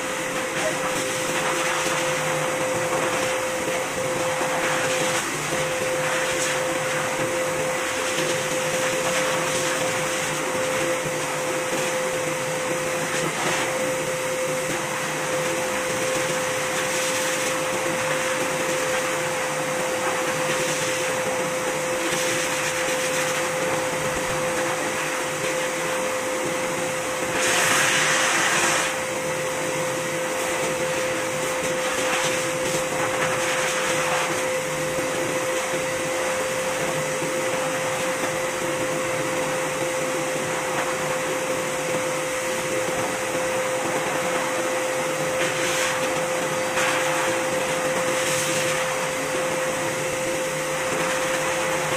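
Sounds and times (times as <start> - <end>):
blow dryer motor whine: 0.0 - 51.9.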